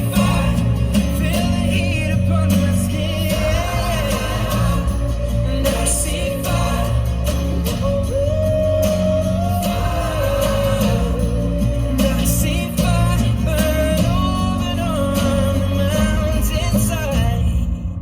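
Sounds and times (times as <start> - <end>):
person singing: 0.0 - 18.0
song with heavy bass: 0.0 - 18.0.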